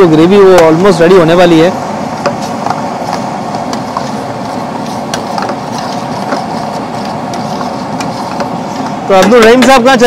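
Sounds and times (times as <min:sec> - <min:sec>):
gas burner roar: 0:00.0 - 0:10.0.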